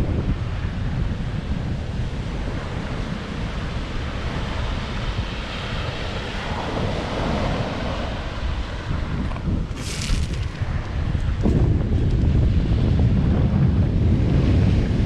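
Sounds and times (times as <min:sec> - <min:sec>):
ocean waves washing on shore: 0:00.0 - 0:15.0
wind rumbling on microphone: 0:00.0 - 0:15.0.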